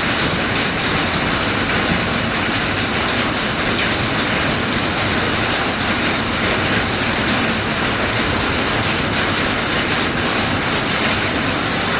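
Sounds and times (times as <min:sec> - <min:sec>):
rain and hail falling hard: 0:00.0 - 0:11.9.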